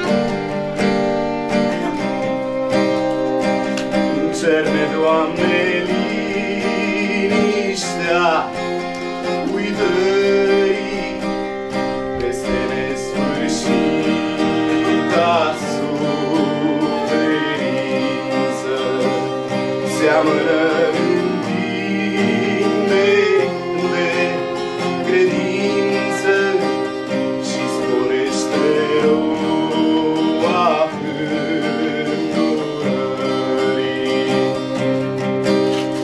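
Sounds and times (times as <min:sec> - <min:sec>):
acoustic guitar accompaniment: 0:00.0 - 0:36.0
violin melody: 0:00.0 - 0:36.0.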